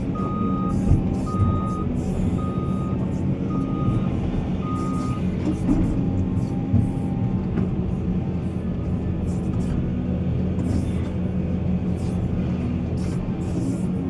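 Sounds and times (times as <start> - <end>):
diesel machinery engine drone: 0.0 - 14.0.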